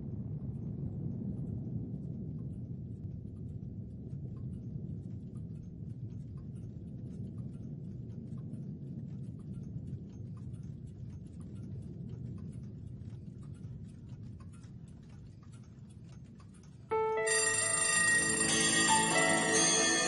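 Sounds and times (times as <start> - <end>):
faint ticks: 0.0 - 17.8.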